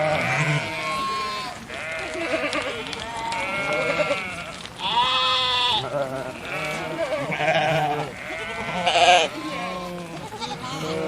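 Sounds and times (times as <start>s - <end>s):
sheep bleating: 0.0s - 11.0s.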